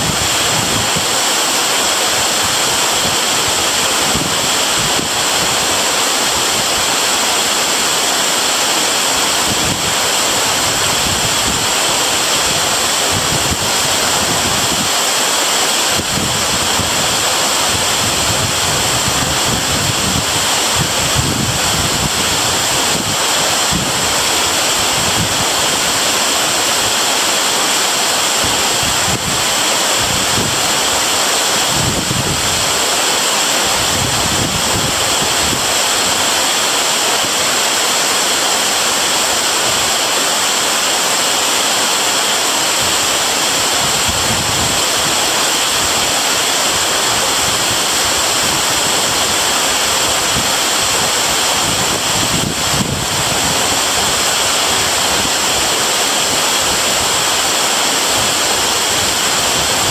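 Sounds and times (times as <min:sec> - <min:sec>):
wind gusts on microphone: 0:00.0 - 0:37.4, 0:41.7 - 0:59.9
waterfall rushing: 0:00.0 - 0:59.9.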